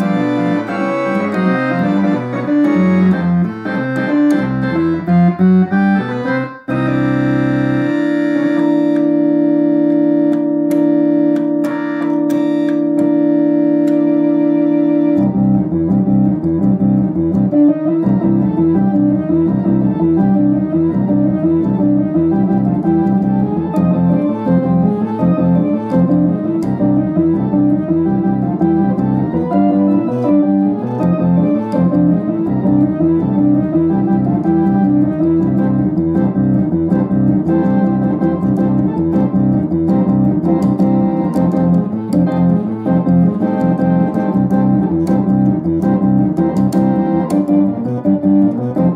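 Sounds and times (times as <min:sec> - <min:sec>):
electric organ chords and melody: 0:00.0 - 0:48.9.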